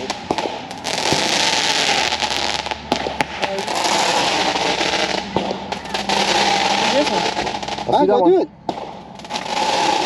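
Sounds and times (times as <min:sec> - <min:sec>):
fireworks hissing crackle: 0:00.0 - 0:10.0
fireworks sharp pops: 0:00.0 - 0:10.0.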